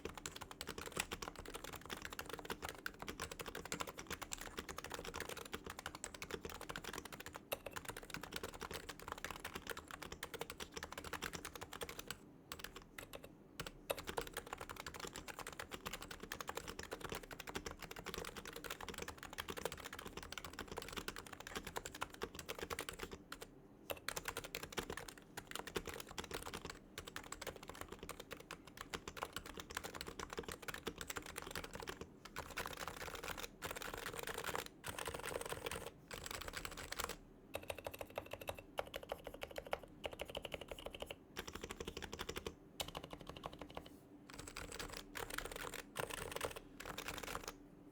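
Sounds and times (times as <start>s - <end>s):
soft muted keyboard typing: 0.0s - 47.6s.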